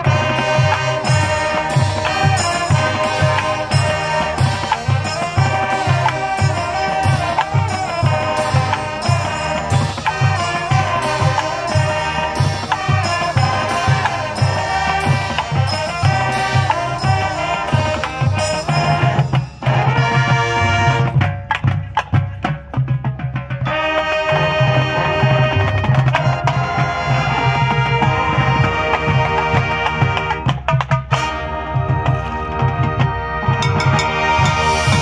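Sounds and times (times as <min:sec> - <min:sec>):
brass chords: 0:00.0 - 0:21.6, 0:23.6 - 0:35.0
sharp percussion hits: 0:00.0 - 0:21.9, 0:23.3 - 0:35.0.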